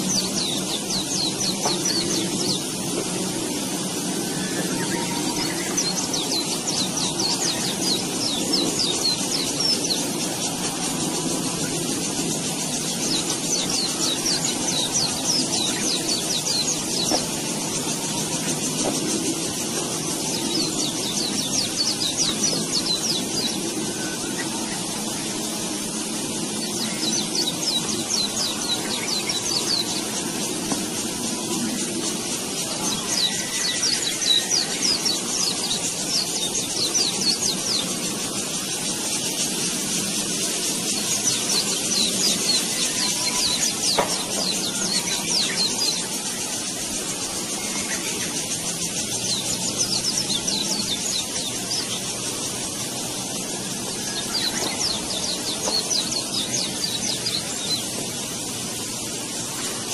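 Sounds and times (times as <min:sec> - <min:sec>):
birds buzzy chatter: 0:00.0 - 0:59.9
steady hiss: 0:00.0 - 0:59.9.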